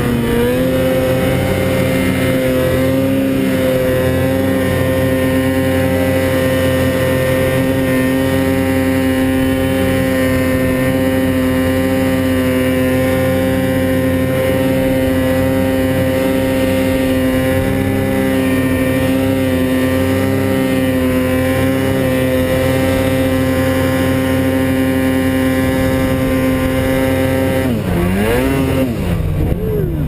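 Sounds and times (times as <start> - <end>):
snowmobile engine running: 0.0 - 30.0.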